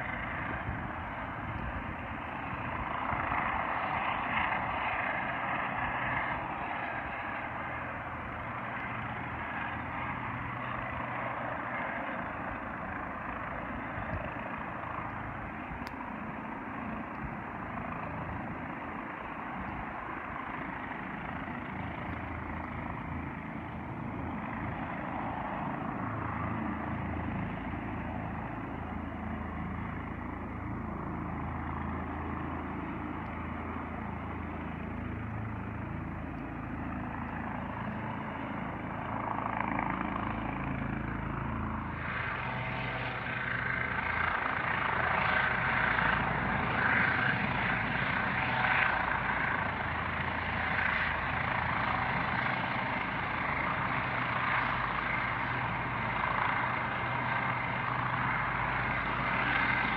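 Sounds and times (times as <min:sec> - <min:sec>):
distant helicopter drone: 0:00.0 - 0:59.9.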